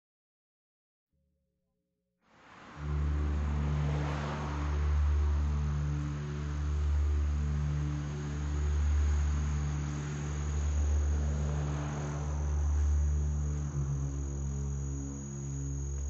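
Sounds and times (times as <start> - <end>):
low droning tones: 2.6 - 16.0
crickets chirring: 2.8 - 16.0.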